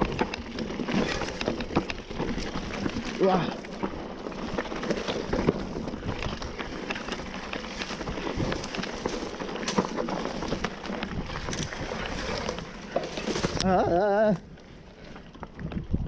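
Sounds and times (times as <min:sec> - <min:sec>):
bike knocking and rattling: 0:00.0 - 0:16.0
tyre and wind noise: 0:00.0 - 0:16.0.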